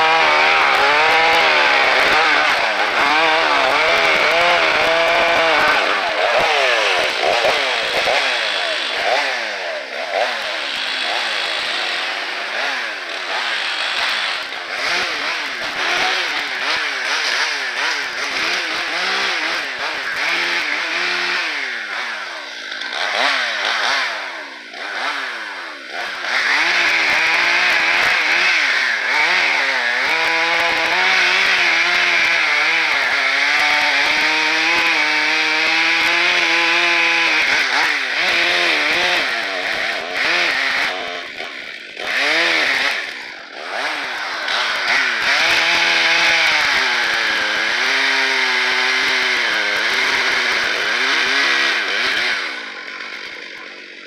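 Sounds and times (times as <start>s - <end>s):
chainsaw revving and cutting: 0.0s - 54.0s.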